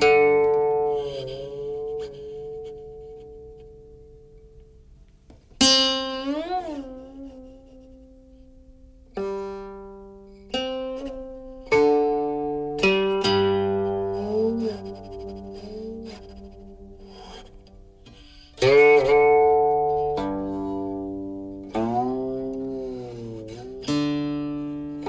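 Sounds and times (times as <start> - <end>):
slow plucked string melody: 0.0 - 25.0.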